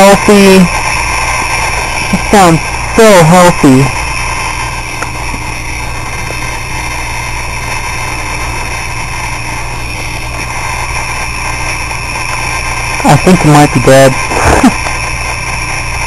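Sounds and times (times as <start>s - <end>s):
hard drive whining: 0.0s - 16.0s.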